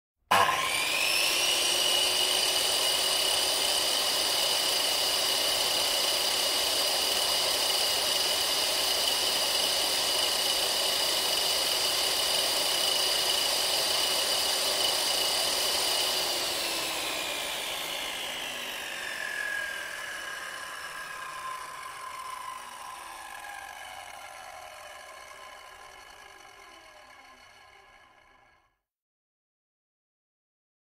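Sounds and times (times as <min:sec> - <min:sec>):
electric chainsaw motor whine: 0:00.3 - 0:28.7.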